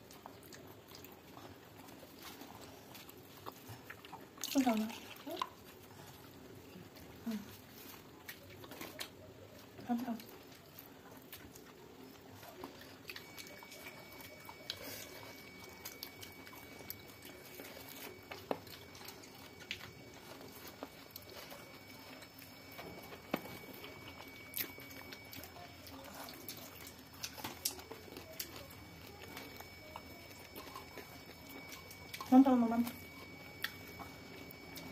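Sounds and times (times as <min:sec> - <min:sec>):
soft chewing and mouth sounds: 0:00.0 - 0:34.9
faint steady high tone: 0:04.5 - 0:34.9.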